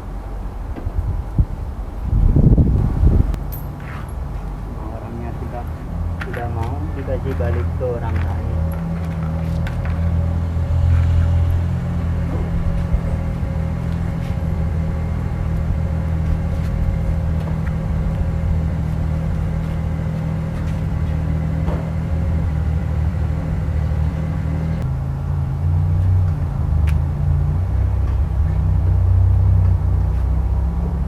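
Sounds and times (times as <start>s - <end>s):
machine hum and rumble: 0.0s - 31.0s.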